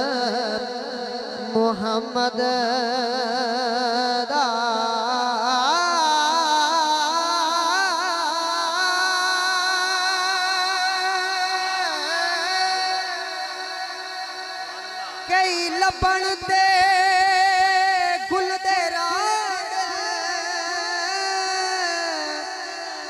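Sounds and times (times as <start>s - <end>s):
man singing into a microphone: 0.0s - 23.0s.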